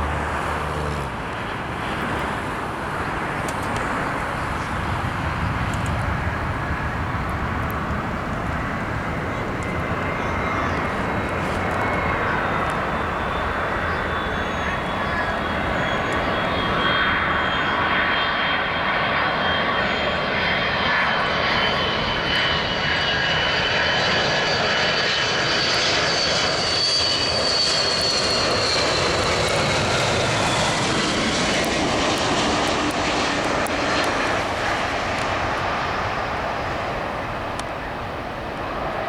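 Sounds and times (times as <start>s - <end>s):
jet engines roaring with turbine whine: 0.0s - 39.0s.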